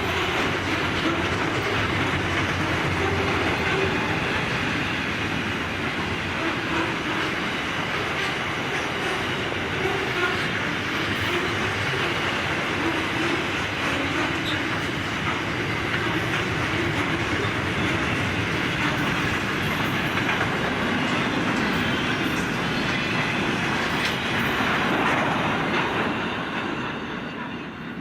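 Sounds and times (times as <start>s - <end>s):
train wheels clattering over rails: 0.0s - 28.0s.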